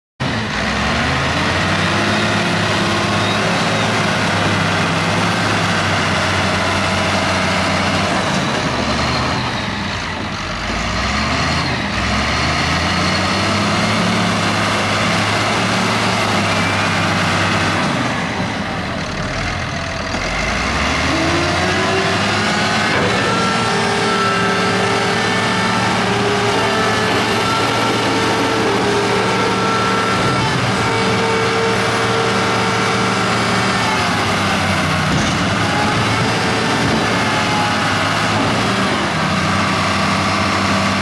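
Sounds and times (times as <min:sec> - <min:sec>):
wheel loader diesel engine: 0:00.2 - 0:41.0.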